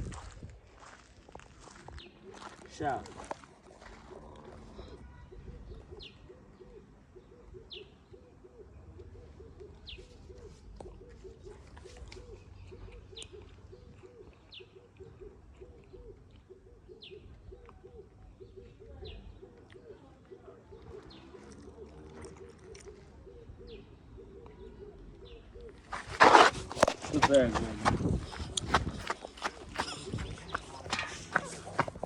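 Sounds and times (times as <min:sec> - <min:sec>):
faint dove cooing: 0:03.7 - 0:32.0.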